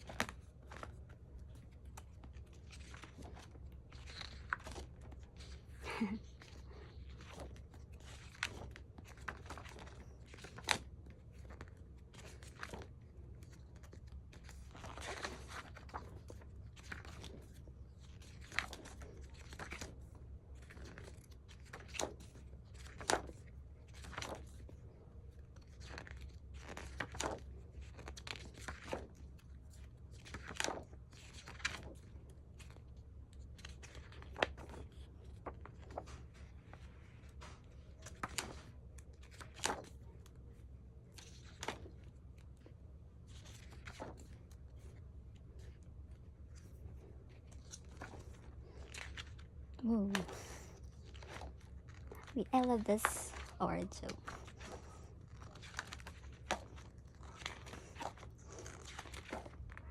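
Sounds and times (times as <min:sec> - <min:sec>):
stiff pages turning: 0:00.0 - 0:24.8, 0:25.4 - 0:59.8
low room hum: 0:00.0 - 0:59.9.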